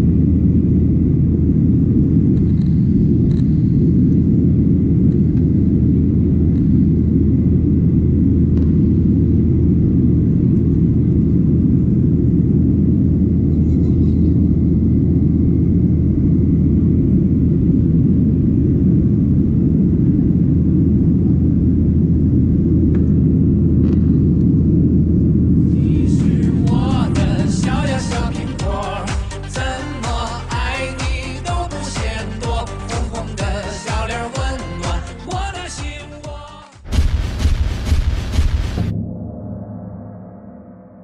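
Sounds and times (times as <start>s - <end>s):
jet engines and rushing air: 0.0s - 31.5s, 36.8s - 41.0s.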